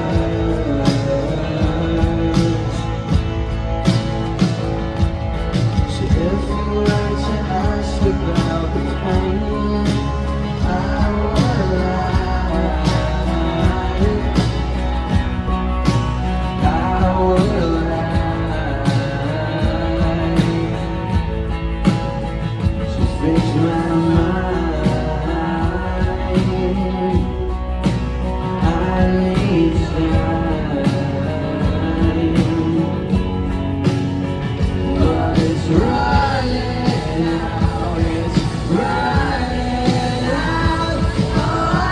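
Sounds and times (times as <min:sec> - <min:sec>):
person singing: 0:00.0 - 0:04.4, 0:05.0 - 0:41.9
live rock band playing: 0:00.0 - 0:41.9
steady drum beat: 0:00.0 - 0:41.9.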